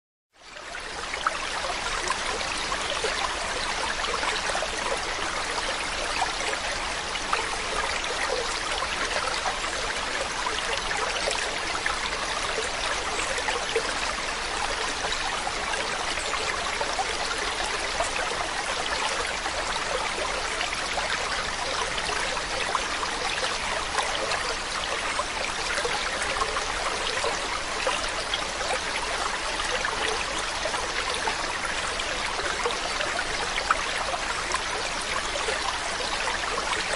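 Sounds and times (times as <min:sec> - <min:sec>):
stream water over rocks: 0:00.4 - 0:36.9.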